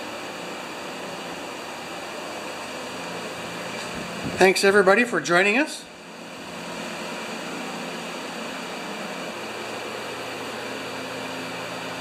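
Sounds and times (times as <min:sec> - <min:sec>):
fan running with hiss and hum: 0:00.0 - 0:12.0.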